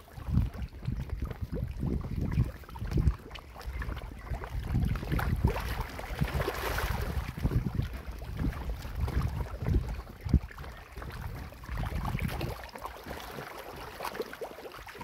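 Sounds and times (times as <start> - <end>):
fish splashing in water: 0.0 - 15.0.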